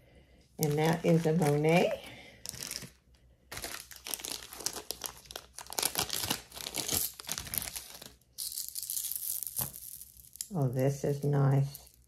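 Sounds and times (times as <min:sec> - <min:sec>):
plastic packaging crinkling: 0:00.6 - 0:10.6.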